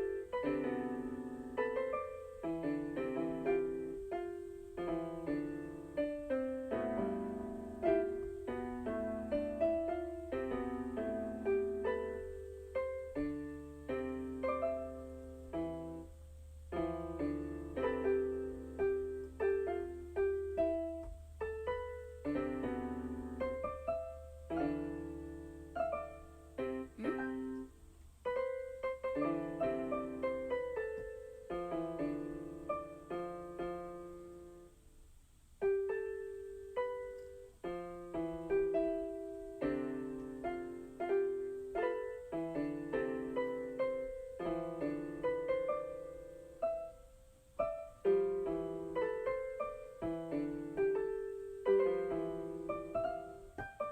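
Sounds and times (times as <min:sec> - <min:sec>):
piano melody: 0:00.0 - 0:34.8, 0:35.6 - 0:53.9.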